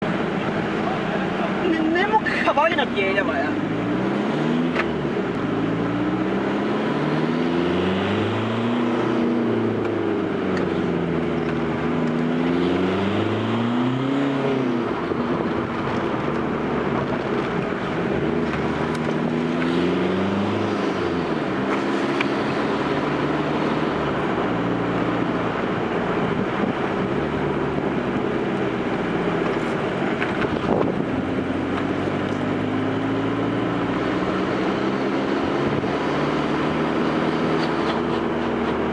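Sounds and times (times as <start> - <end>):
diesel engine accelerating hard: 0.0 - 38.9.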